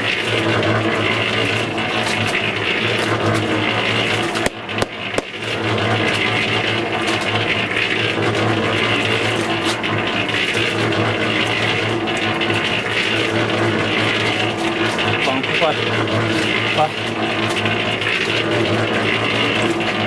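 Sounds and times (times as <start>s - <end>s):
cement mixer running: 0.0s - 20.0s.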